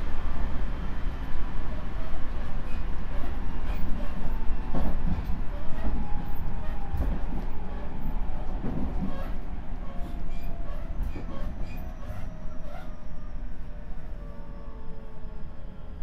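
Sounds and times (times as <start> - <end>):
low railway rumble: 0.0 - 16.0.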